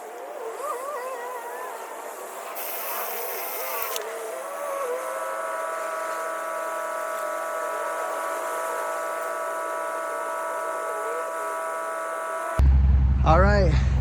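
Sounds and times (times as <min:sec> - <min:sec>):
small motor buzzing whine: 0:00.0 - 0:12.6.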